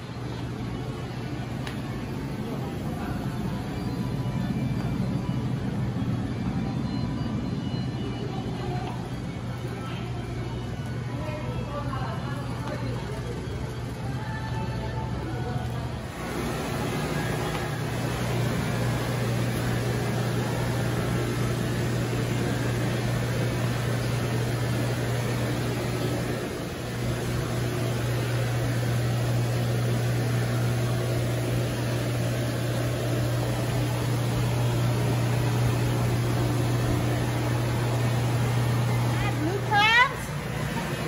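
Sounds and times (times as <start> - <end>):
low mechanical hum: 0.0 - 41.0.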